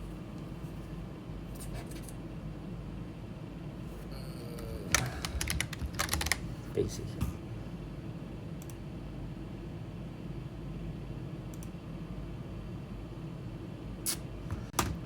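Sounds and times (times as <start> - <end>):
room and computer hum: 0.0 - 15.0.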